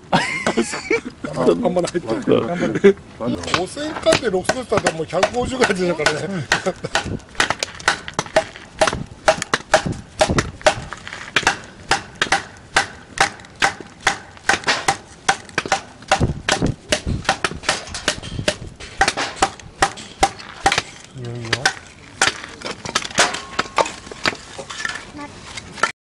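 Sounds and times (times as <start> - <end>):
axe chopping firewood: 3.4 - 24.5.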